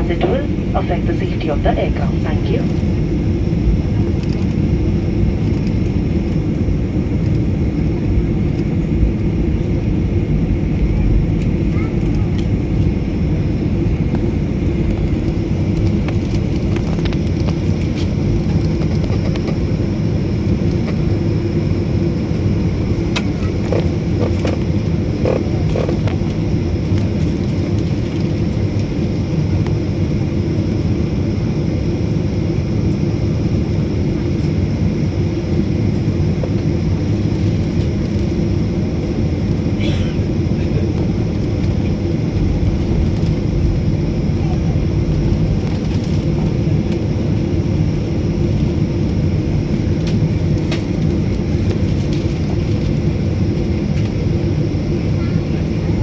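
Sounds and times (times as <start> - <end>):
airliner engines rumbling: 0.0 - 56.0.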